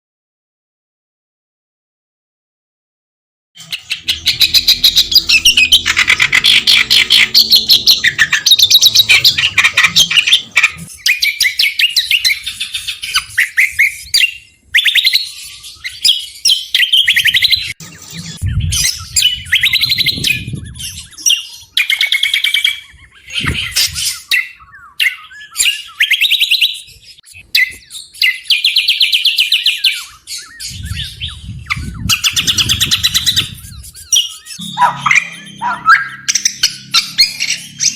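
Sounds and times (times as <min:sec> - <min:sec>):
songbird chattering trills: 0:03.6 - 0:14.4, 0:15.0 - 0:37.9.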